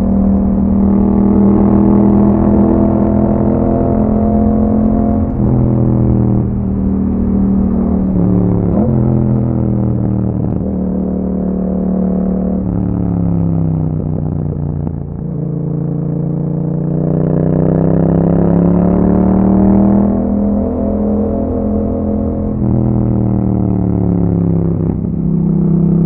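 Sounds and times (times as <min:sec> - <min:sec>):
motorcycle engine while riding: 0:00.0 - 0:26.0.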